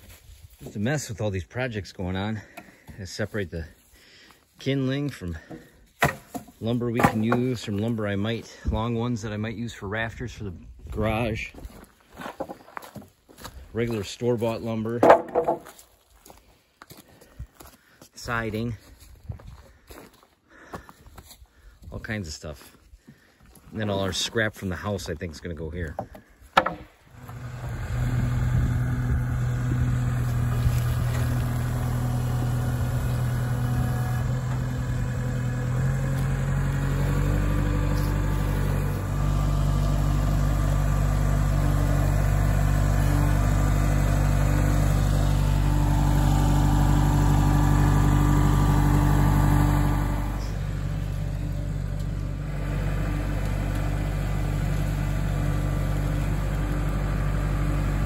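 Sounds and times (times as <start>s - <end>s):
tractor diesel engine running: 0.0s - 15.8s, 23.5s - 58.0s.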